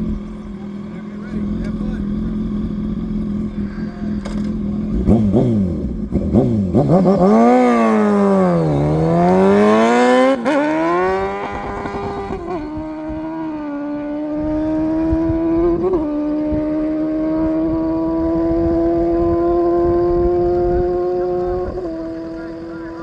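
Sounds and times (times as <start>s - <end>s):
racing engine revving: 1.1s - 23.0s.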